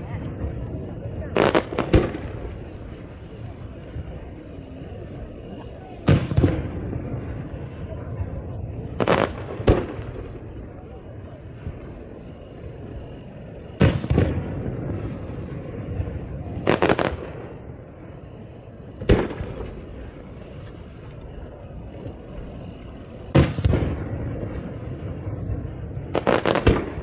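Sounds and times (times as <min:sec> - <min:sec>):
firework bangs: 0:00.0 - 0:27.0.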